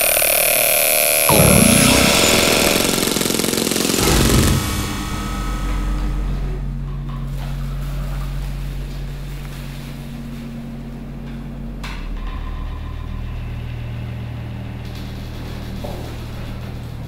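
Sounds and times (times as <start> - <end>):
low mechanical hum: 1.1 - 17.0.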